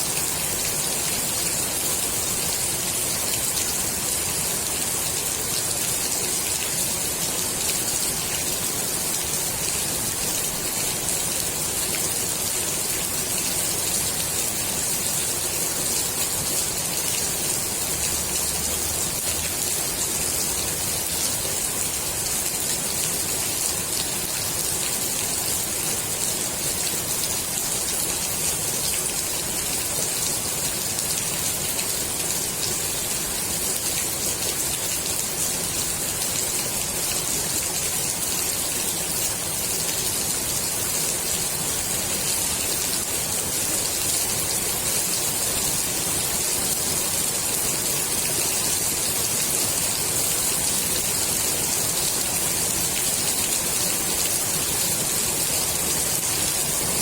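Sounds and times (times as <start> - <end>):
rain falling on pool water: 0.0 - 57.0.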